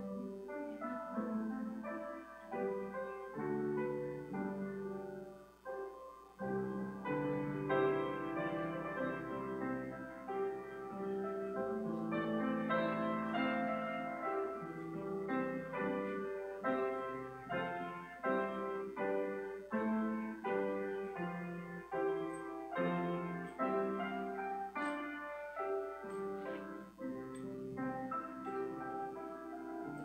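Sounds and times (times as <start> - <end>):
slow piano chords: 0.0 - 30.0.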